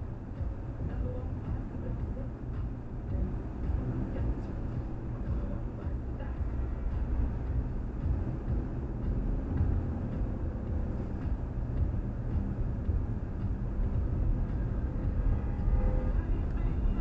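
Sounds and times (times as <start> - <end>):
car engine running: 0.0 - 17.0
tyre and road noise: 0.0 - 17.0.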